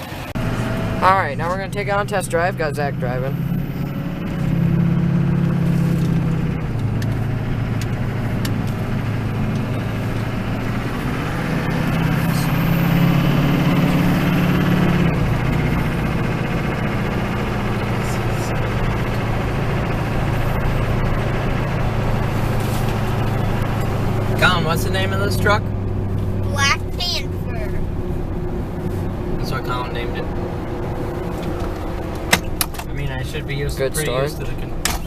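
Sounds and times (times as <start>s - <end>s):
diesel truck engine accelerating: 0.0s - 35.0s.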